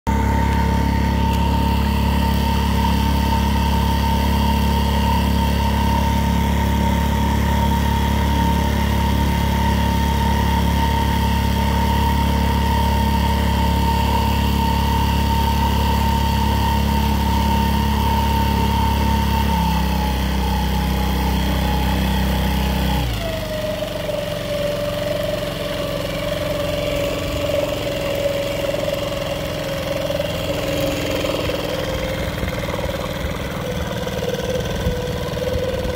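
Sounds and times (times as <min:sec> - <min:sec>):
small boat motor whining: 0:00.1 - 0:35.9.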